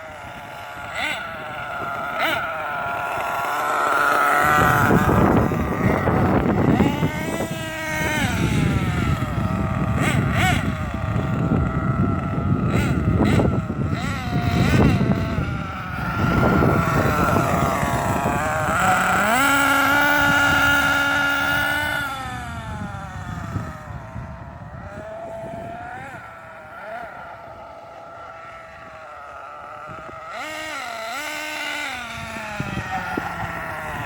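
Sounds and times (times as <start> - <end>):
rc car motor revving: 0.0 - 34.0
wind buffeting microphone: 0.0 - 34.0.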